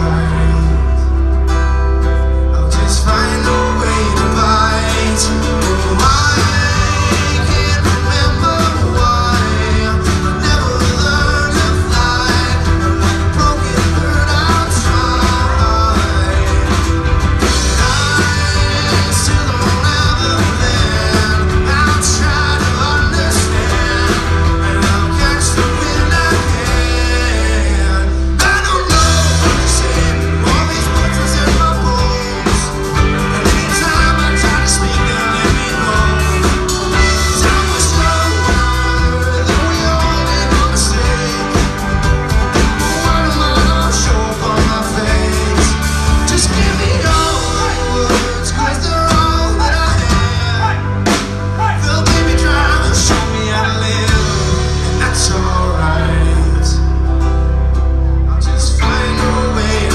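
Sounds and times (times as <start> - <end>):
person singing: 0.0 - 57.3, 58.2 - 59.9
folk-rock band playing: 0.0 - 59.9.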